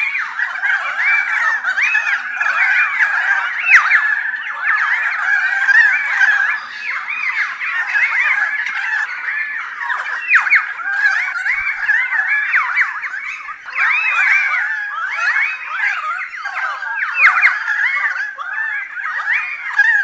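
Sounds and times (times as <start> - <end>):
flock of birds chirping: 0.0 - 20.0.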